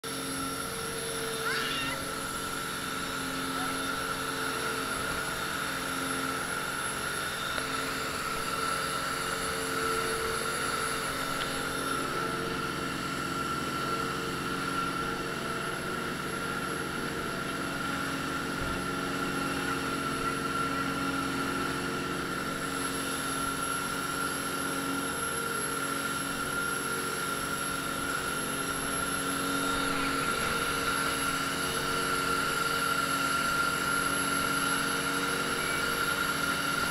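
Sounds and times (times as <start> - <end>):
boat engine whine: 0.0 - 36.9.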